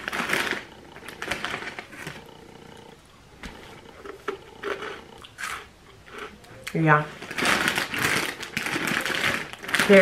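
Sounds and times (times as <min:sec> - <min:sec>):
dry cereal crunching while chewed: 0:00.0 - 0:02.9, 0:03.5 - 0:06.4, 0:07.1 - 0:10.0.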